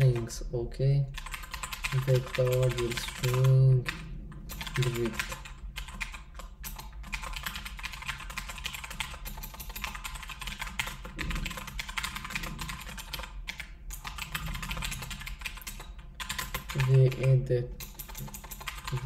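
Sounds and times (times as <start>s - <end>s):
fast typing on keyboard: 1.2s - 19.0s.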